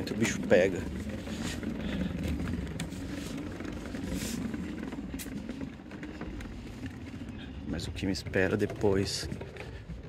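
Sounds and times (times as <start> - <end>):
tyre rumbling on wooden boardwalk: 0.0 - 10.0
wooden planks clacking: 0.0 - 10.0.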